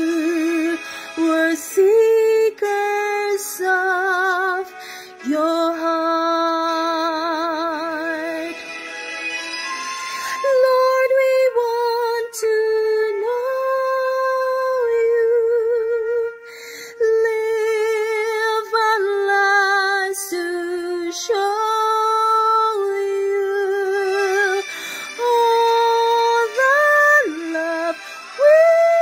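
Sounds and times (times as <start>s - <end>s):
woman singing slow song: 0.0s - 8.6s, 10.4s - 29.0s.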